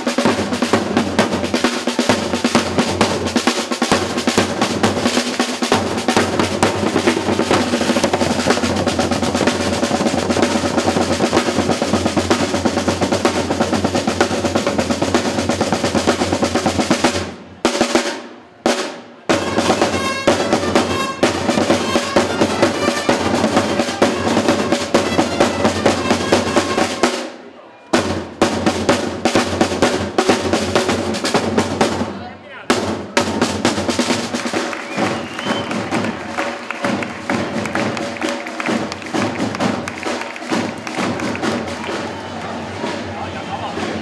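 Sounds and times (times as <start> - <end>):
marching snare drums: 0.0 - 44.0.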